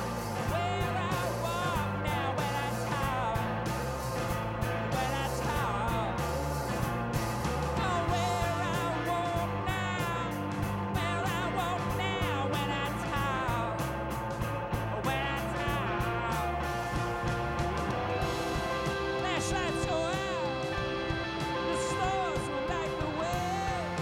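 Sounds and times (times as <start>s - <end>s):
man singing: 0.0s - 6.4s, 7.7s - 14.1s, 14.7s - 17.6s, 18.2s - 24.0s
drums: 0.0s - 24.0s
electric guitar: 0.0s - 24.0s.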